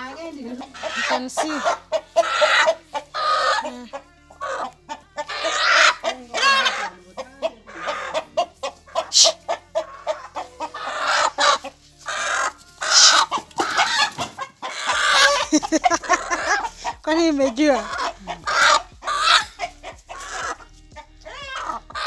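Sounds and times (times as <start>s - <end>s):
chicken clucking and squawking: 0.0s - 22.0s.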